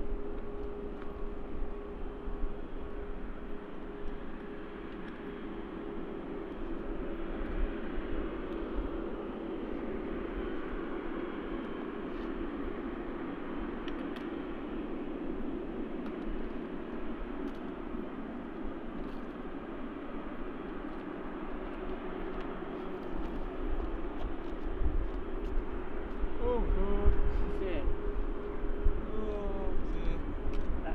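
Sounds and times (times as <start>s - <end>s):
jet engines droning: 0.0s - 30.9s.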